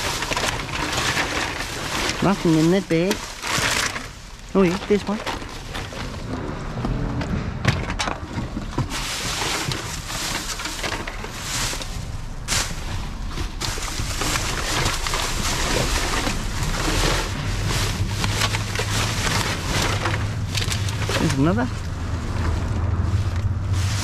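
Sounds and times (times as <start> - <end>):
plastic bags rustling: 0.0 - 7.2, 7.8 - 24.0
knocks and clatters: 0.0 - 24.0.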